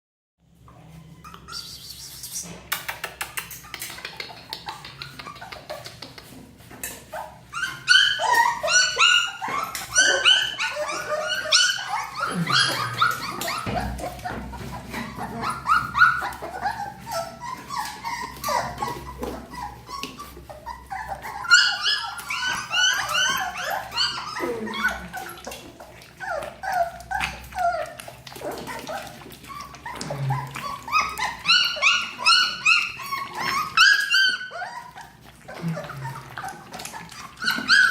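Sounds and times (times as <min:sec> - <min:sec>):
puppies whining and yelping: 0:00.5 - 0:02.6, 0:03.4 - 0:37.9.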